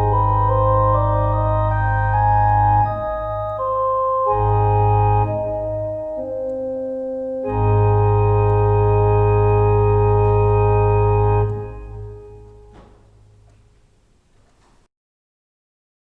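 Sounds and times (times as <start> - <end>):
organ music: 0.0 - 14.3.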